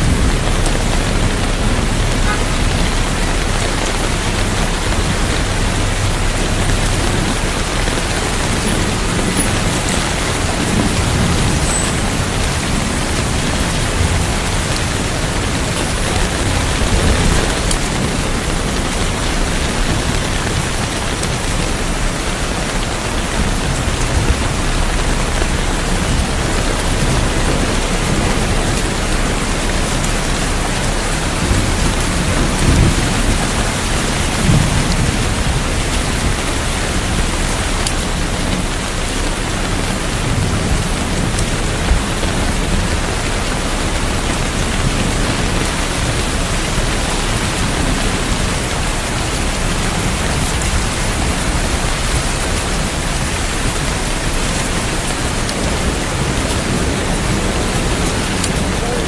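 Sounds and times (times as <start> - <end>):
distant thunder rolls: 0.0 - 59.0
heavy rain pouring: 0.0 - 59.0.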